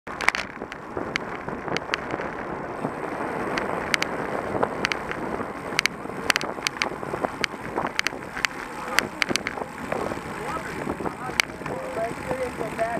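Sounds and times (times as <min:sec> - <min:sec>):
tyre noise on asphalt: 0:00.0 - 0:12.9
sharp clicks and rattles: 0:00.1 - 0:12.9
wind rushing over microphone: 0:00.1 - 0:12.9.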